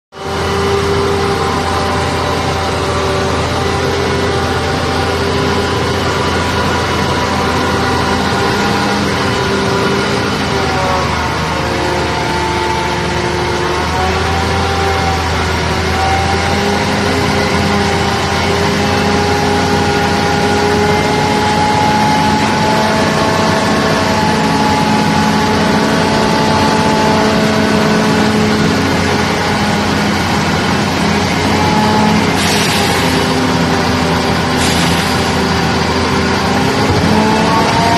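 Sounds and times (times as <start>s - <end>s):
garbage truck engine running: 0.1s - 37.9s
hydraulic loader arm drone: 0.2s - 37.9s.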